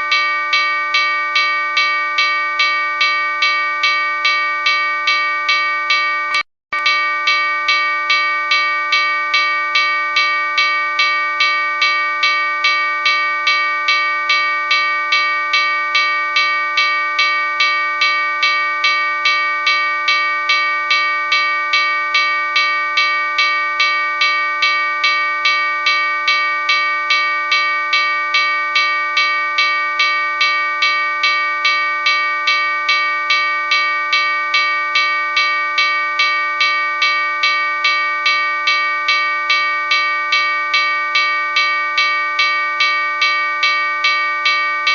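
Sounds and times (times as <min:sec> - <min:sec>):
locomotive bell ringing: 0:00.0 - 0:44.9.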